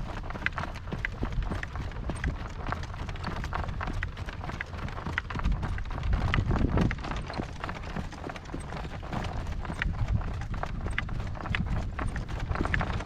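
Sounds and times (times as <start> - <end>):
horse hoofbeats: 0.0 - 13.0
wind rumbling on microphone: 0.0 - 13.0.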